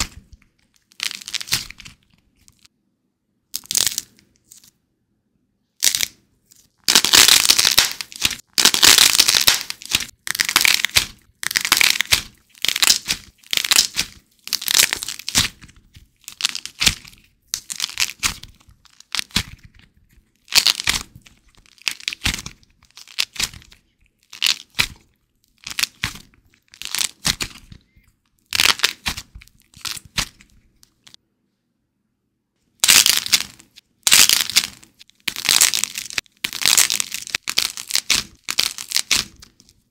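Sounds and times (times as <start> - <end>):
clay skin cracking and crinkling: 0.0 - 2.8, 3.5 - 4.8, 5.8 - 31.2, 32.8 - 39.9.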